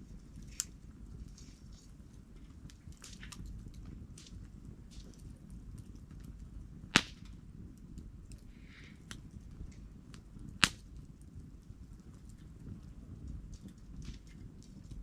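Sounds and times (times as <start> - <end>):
campfire crackling: 0.0 - 15.0
low rush of flames: 0.0 - 15.0
loud sharp pops of fire: 0.3 - 15.0.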